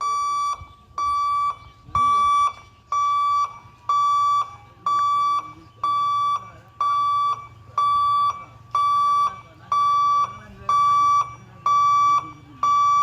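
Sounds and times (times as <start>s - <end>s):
level crossing electronic beeps: 0.0s - 13.0s.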